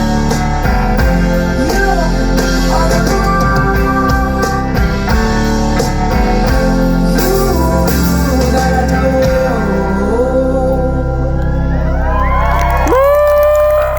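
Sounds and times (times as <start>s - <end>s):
live band music: 0.0s - 12.2s.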